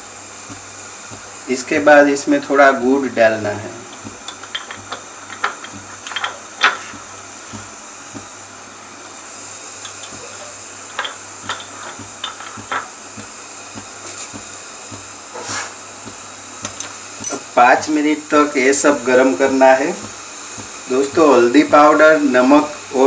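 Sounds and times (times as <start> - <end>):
milk heating hiss: 0.0 - 23.0.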